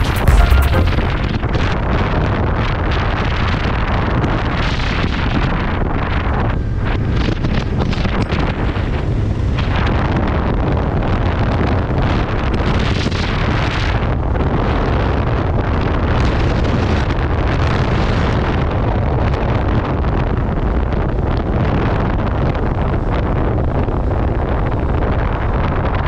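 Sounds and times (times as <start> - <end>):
wind buffeting microphone: 1.2 - 26.0.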